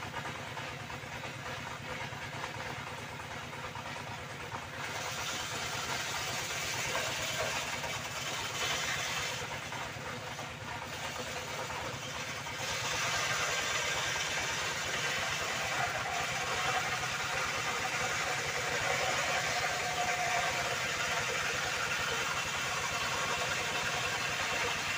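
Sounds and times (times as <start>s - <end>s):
circular saw cutting wood: 4.7s - 24.9s.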